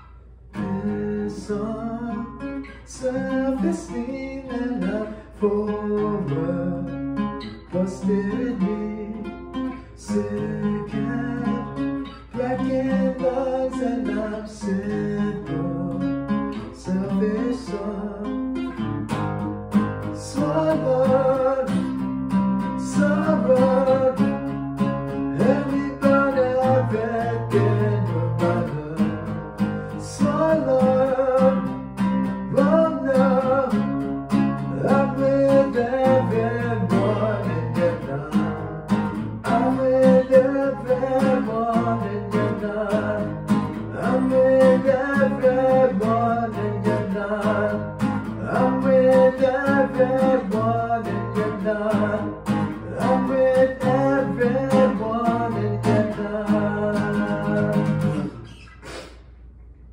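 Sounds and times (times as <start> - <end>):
acoustic guitar: 0.0 - 59.9
man singing: 0.6 - 18.8, 20.0 - 58.6.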